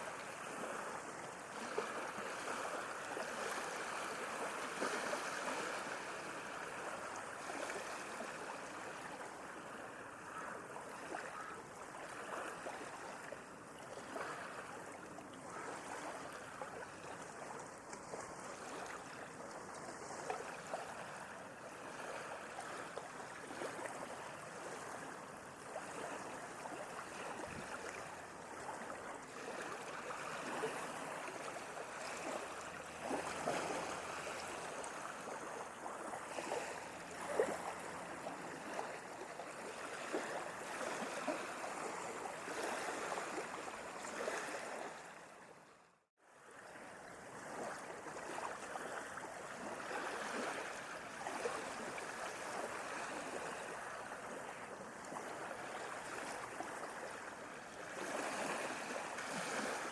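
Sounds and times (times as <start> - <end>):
sea waves lapping: 0.0 - 59.9.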